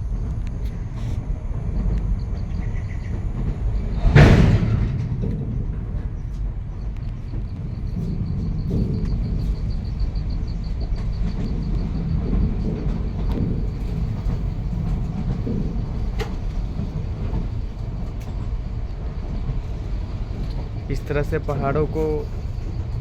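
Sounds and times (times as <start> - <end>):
train rumbling along track: 0.0 - 23.0
wheels clicking on rails: 0.0 - 23.0.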